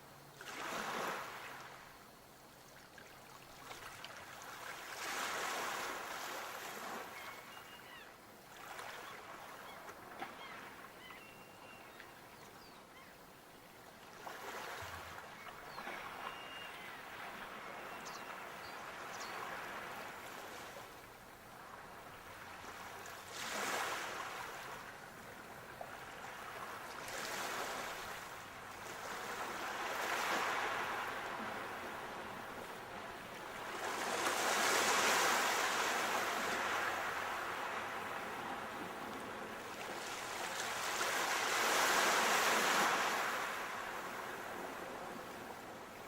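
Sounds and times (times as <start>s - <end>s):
sea waves breaking on shore: 0.0s - 2.0s, 2.8s - 11.8s, 14.0s - 46.0s.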